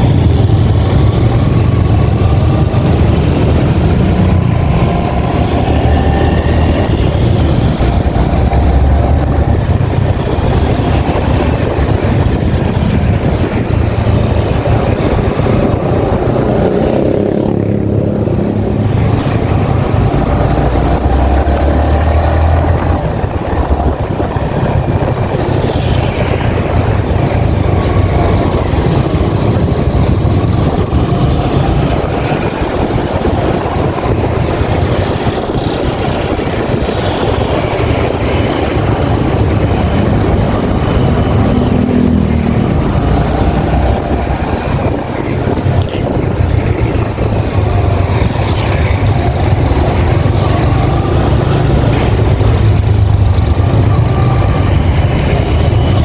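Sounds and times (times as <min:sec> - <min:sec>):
motorcycle engine running: 0:00.0 - 0:21.5, 0:22.2 - 0:56.0.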